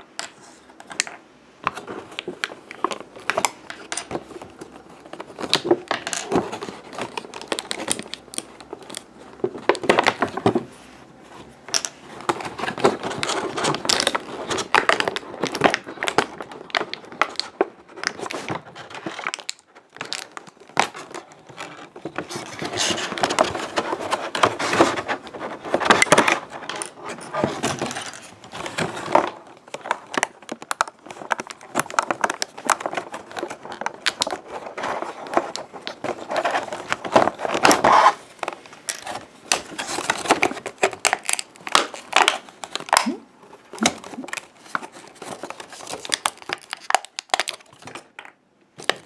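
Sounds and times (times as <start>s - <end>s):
plastic packaging crinkling: 0.0s - 49.0s.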